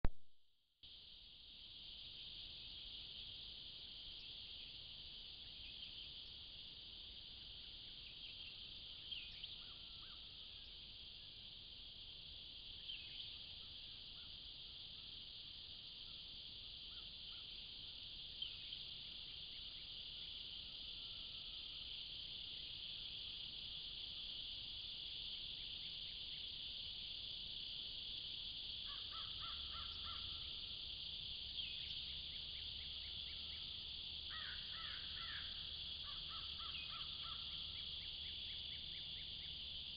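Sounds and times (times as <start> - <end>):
insects chorus: 0.8 - 39.9.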